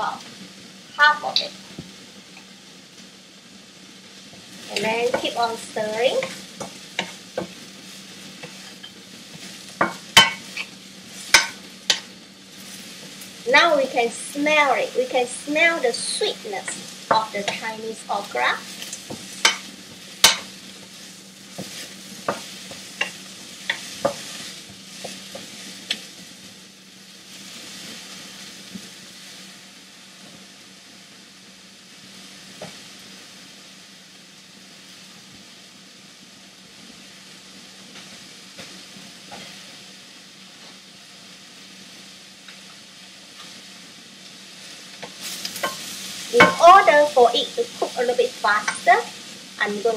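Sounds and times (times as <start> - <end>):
okra sizzling in oil: 0.0 - 49.9.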